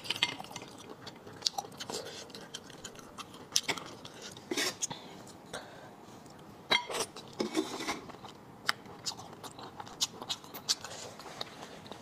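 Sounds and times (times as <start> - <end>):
person chewing: 0.0 - 5.4, 6.2 - 12.0.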